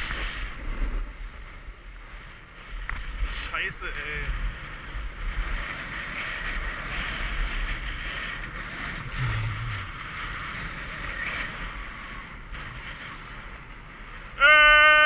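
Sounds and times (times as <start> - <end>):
snowboard scraping on snow: 0.0 - 14.4
wind buffeting microphone: 0.0 - 14.8.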